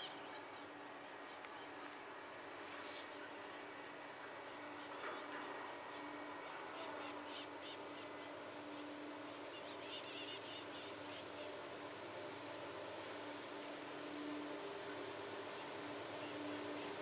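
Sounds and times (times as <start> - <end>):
faint outdoor ambience: 0.0 - 17.0
low steady hum: 0.0 - 17.0.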